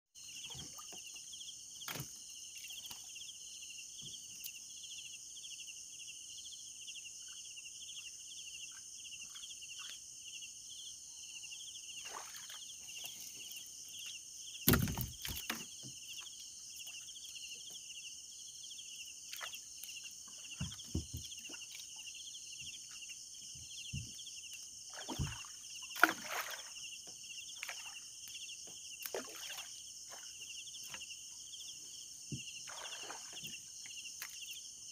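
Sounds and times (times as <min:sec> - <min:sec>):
insect chorus trilling: 0:00.2 - 0:34.9.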